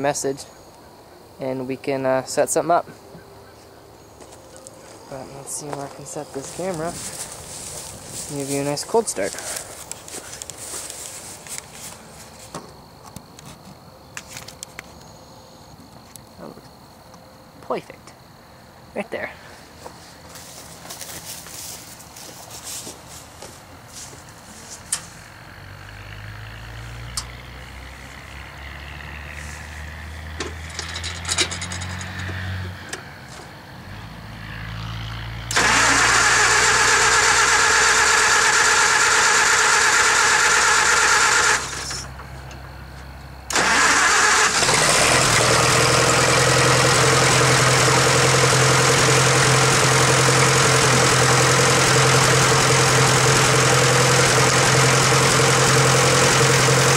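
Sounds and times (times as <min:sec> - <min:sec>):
tractor engine starting and running: 0:04.2 - 0:15.1, 0:19.4 - 0:56.9.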